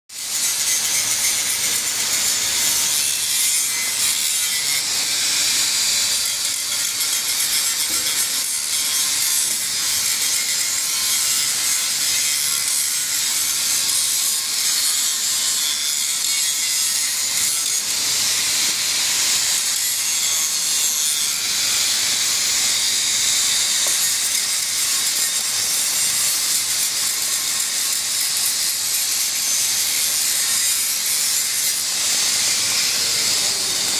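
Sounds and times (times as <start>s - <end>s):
welding arc hissing: 0.2s - 33.9s.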